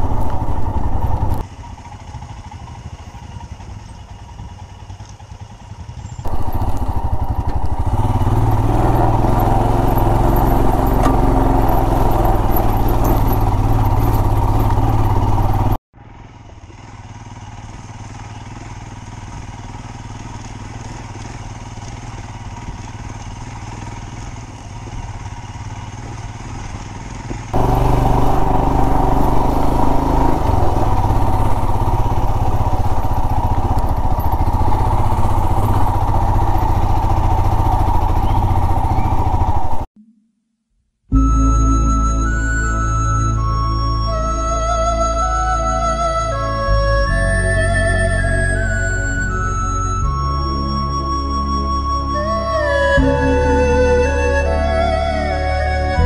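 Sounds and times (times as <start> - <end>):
motorcycle engine on dirt track: 0.0 - 39.9, 41.1 - 56.0.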